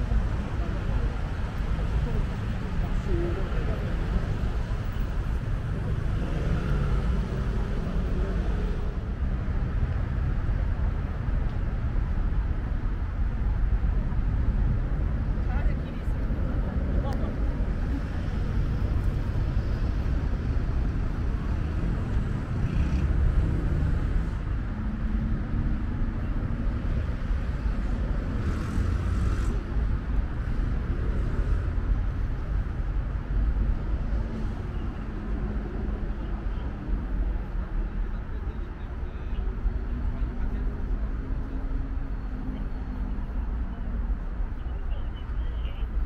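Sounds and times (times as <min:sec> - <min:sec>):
city traffic rumble: 0:00.0 - 0:46.0.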